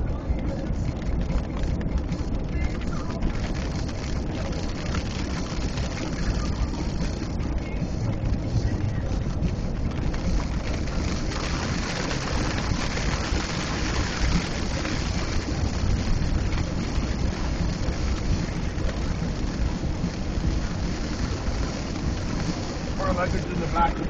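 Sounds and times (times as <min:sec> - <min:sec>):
rain on a car: 0:00.0 - 0:24.0
road and engine rumble: 0:00.0 - 0:24.0.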